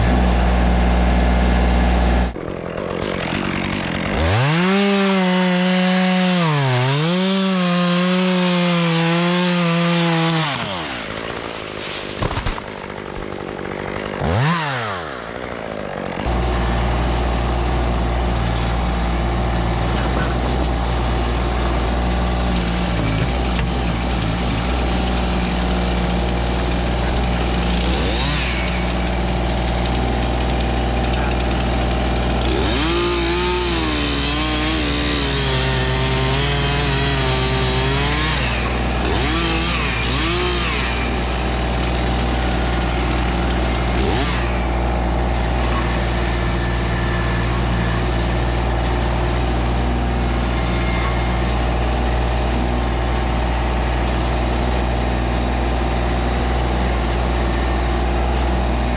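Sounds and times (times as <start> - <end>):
chainsaw revving and cutting: 0.0 - 58.9
small engine running: 0.0 - 58.9.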